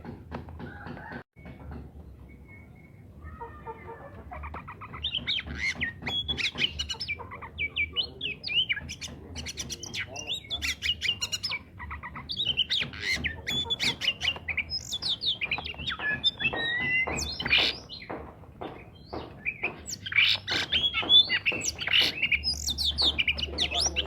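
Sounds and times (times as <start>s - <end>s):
songbird singing: 0.7s - 24.0s.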